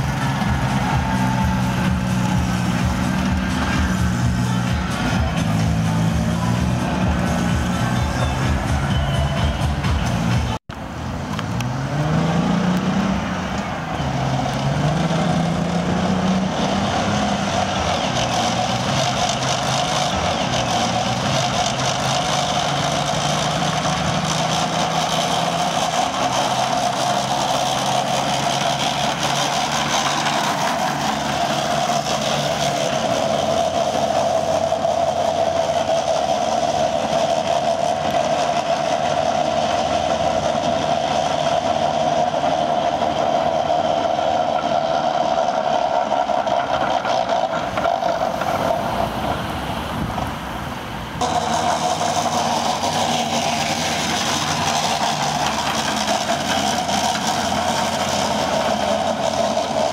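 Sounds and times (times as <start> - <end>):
constant engine whine: 0.0 - 59.9
tracked vehicle driving: 0.0 - 59.9.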